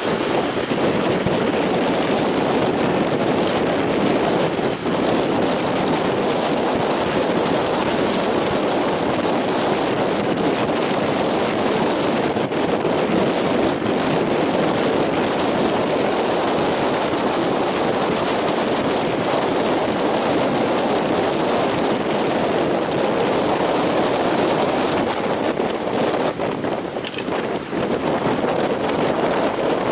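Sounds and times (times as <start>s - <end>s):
waves breaking: 0.0s - 29.9s
wind on microphone: 0.0s - 29.9s.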